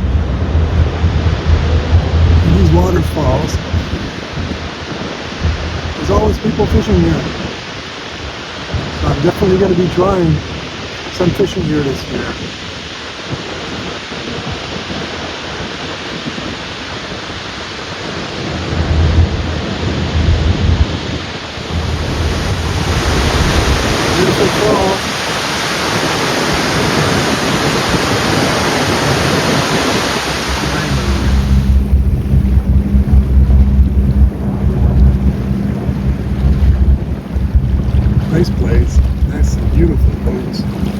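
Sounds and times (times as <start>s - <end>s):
boat engine droning: 0.0s - 40.9s
rush of wind and water: 0.0s - 40.9s
wind buffeting microphone: 0.0s - 40.9s.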